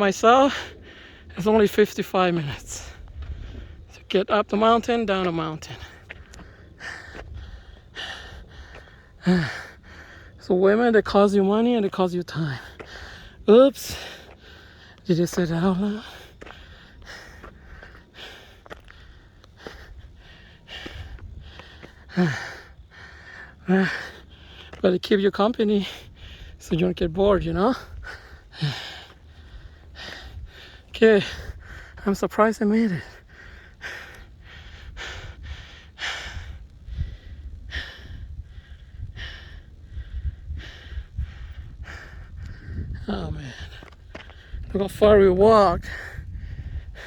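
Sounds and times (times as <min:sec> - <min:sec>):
person breathing heavily: 0:00.0 - 0:01.7, 0:05.6 - 0:10.5, 0:12.4 - 0:24.8, 0:25.6 - 0:47.0.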